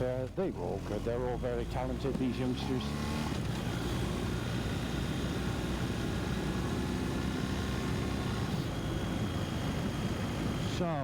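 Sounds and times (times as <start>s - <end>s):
wind and road noise: 0.0s - 11.0s
motorcycle engine running: 0.8s - 10.8s.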